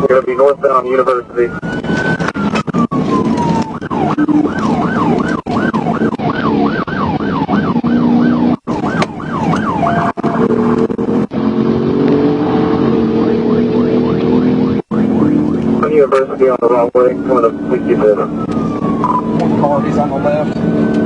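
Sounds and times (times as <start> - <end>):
police siren yelping: 0.0 - 21.0
vehicle road noise: 0.0 - 21.0.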